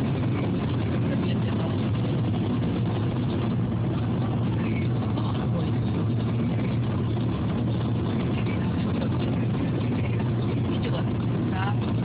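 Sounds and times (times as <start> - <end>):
car engine and tyre hum: 0.0 - 12.0.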